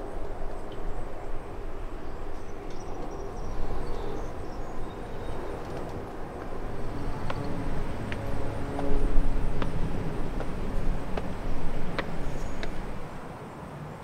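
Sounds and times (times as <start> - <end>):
low noisy rumble: 0.0 - 13.4.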